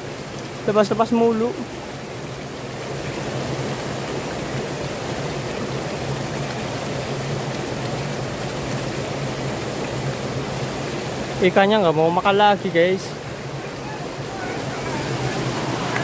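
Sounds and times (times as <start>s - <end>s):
stream and waterfall rushing: 0.0s - 16.0s.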